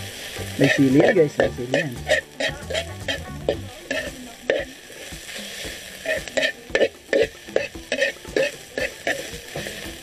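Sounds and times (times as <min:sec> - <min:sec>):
food sizzling in a wok: 0:00.0 - 0:10.0
spatula scraping a pan: 0:00.0 - 0:10.0.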